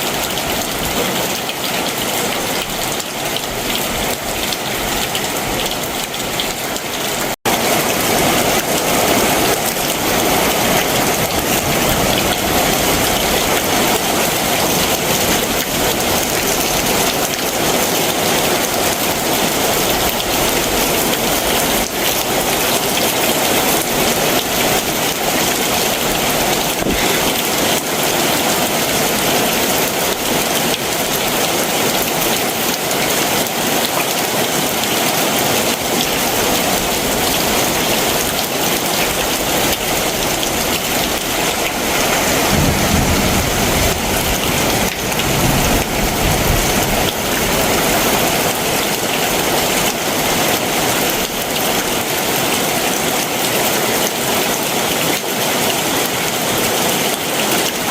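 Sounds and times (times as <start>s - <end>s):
heavy rain downpour: 0.0s - 57.9s.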